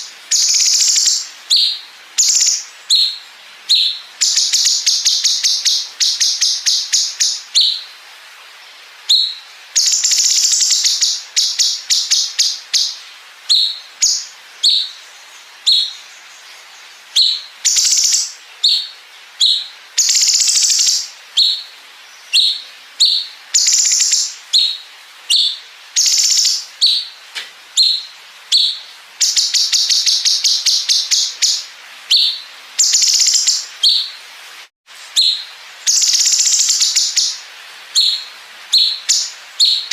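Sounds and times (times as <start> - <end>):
bird chirps: 0.0 - 7.9, 9.1 - 34.2, 35.0 - 39.9
songbird trilling: 0.0 - 7.9, 9.1 - 16.4, 17.0 - 27.2, 27.8 - 34.1, 35.1 - 37.4, 38.0 - 39.9.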